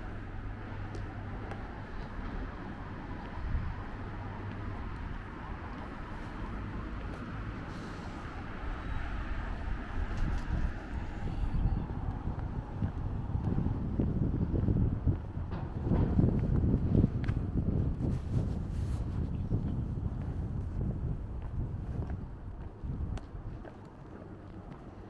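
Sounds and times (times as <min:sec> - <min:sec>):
city traffic hum: 0:00.0 - 0:25.0.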